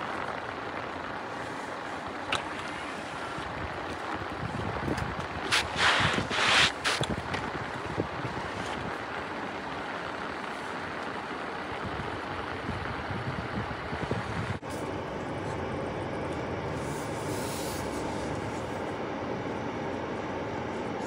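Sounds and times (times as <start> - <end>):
road and engine noise inside car: 0.0 - 21.0.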